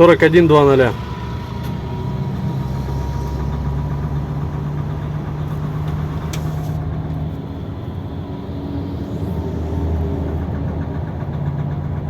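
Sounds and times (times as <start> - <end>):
diesel truck engine knocking: 0.0 - 12.0.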